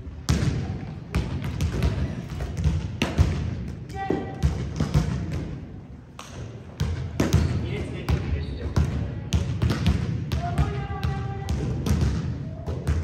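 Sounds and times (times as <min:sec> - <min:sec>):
volleyballs thudding on floor: 0:00.3 - 0:05.6, 0:06.2 - 0:13.0.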